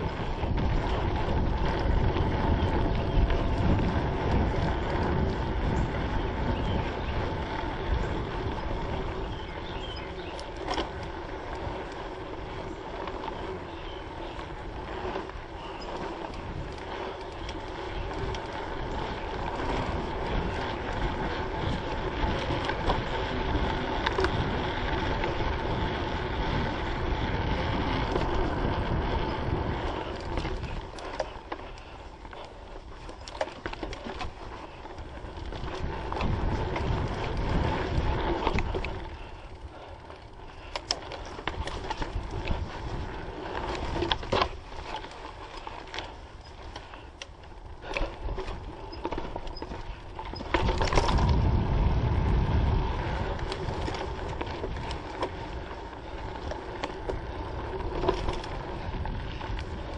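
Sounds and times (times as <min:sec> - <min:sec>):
bike rattling over bumps: 0:00.0 - 0:59.9
bike tyre noise: 0:00.0 - 0:59.9
wind rumble on microphone: 0:00.0 - 0:59.9.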